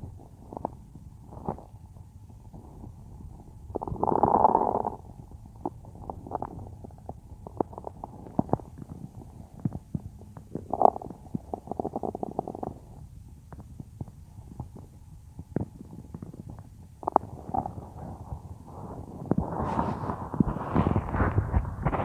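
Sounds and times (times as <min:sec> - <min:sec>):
stomach gurgling: 0:00.0 - 0:22.0.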